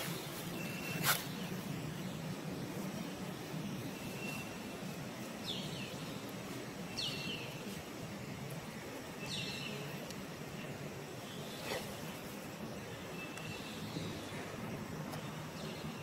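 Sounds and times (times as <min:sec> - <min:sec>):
outdoor background hum: 0:00.0 - 0:16.0.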